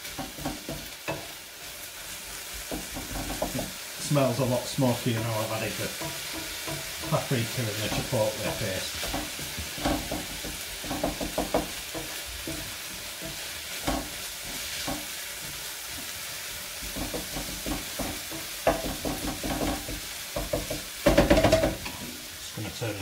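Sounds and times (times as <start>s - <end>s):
wooden spatula scraping a pan: 0.0s - 22.8s
meat sizzling in a pan: 0.0s - 23.0s.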